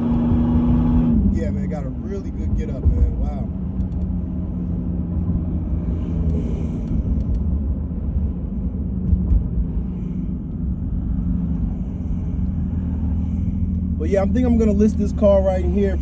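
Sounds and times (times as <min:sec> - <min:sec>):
car engine hum: 0:00.0 - 0:16.0
road and tyre rumble: 0:00.0 - 0:16.0.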